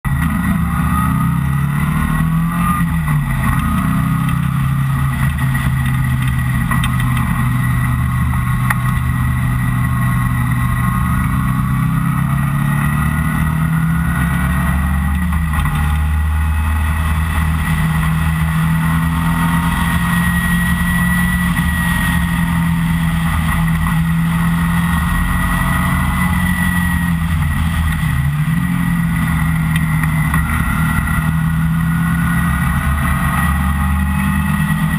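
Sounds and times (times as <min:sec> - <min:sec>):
wind and road noise: 0:00.0 - 0:34.9
sports car engine revving: 0:00.1 - 0:34.9.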